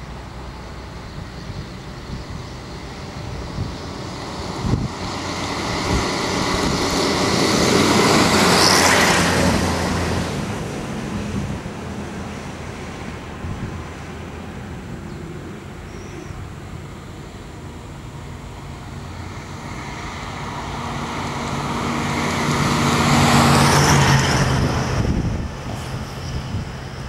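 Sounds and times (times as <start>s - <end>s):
approaching truck engine running: 0.0s - 27.0s
military truck driving past: 0.0s - 27.0s.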